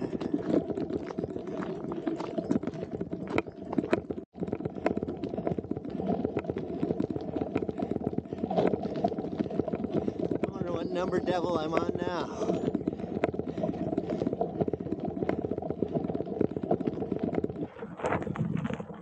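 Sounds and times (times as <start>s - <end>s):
gravel crunching: 0.0s - 19.0s.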